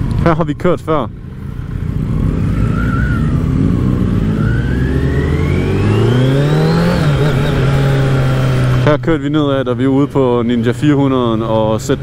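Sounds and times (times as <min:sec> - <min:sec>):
motorcycle engine accelerating: 0:01.1 - 0:12.0.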